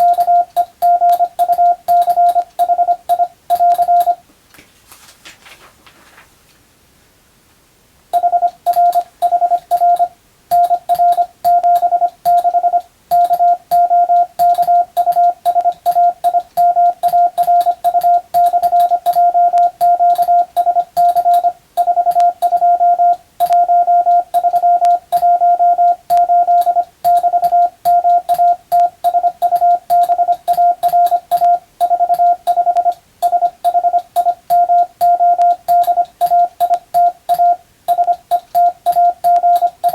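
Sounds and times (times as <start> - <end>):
morse code tone: 0.0 - 4.2, 8.2 - 39.9.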